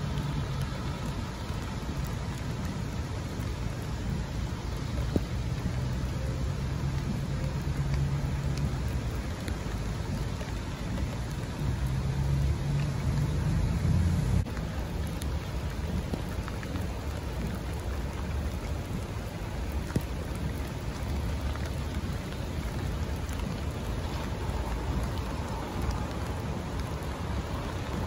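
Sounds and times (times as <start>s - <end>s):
heavy low rumble: 0.0s - 28.0s
rain on wet road: 0.0s - 28.0s.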